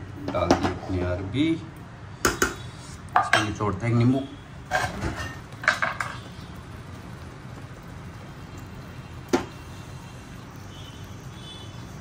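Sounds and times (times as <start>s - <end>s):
gas burner hum: 0.0s - 12.0s.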